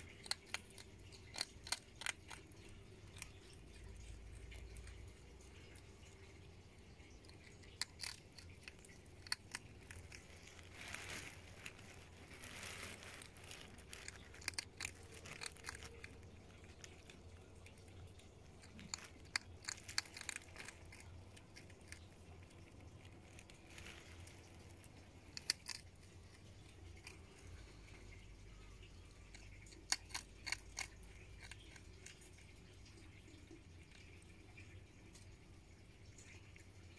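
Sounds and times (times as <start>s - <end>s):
hedgehog crunching food: 0.0s - 36.9s.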